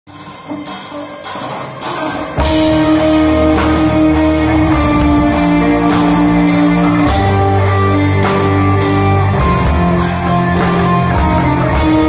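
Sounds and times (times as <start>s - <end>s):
live rock band playing: 0.1s - 12.0s.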